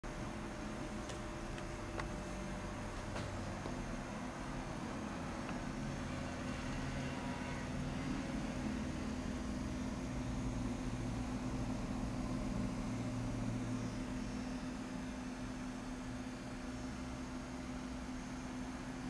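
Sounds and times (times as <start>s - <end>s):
graphics card fan whirring: 0.1s - 19.0s.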